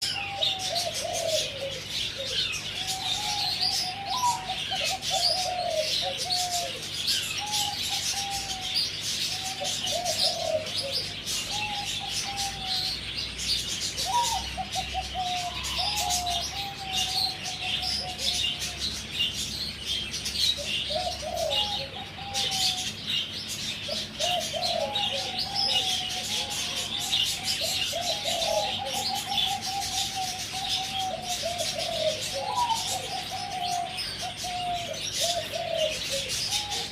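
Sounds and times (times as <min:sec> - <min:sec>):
dove cooing in trilled phrases: 0:00.0 - 0:36.9
small birds chirping: 0:00.0 - 0:36.9.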